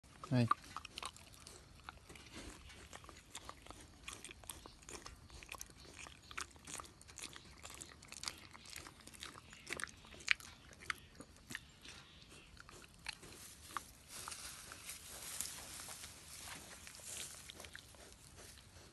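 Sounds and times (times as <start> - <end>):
piglet chewing: 0.0 - 18.9.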